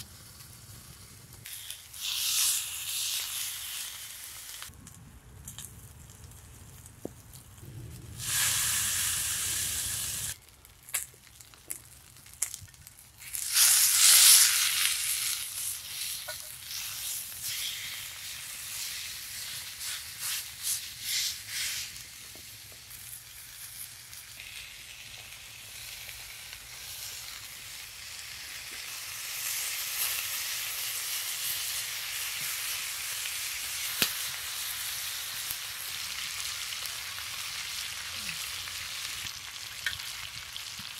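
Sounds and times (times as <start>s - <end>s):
steak sizzling in a skillet: 0.2s - 4.7s, 8.1s - 10.4s, 13.2s - 40.9s.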